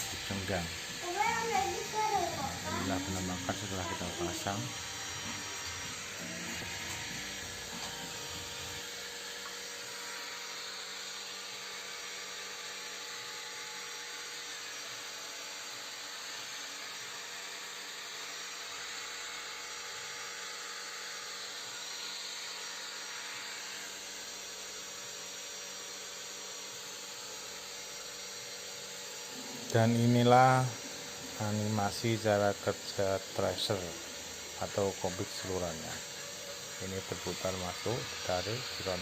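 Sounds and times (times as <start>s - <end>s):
electric grinder whirring: 0.0s - 39.0s.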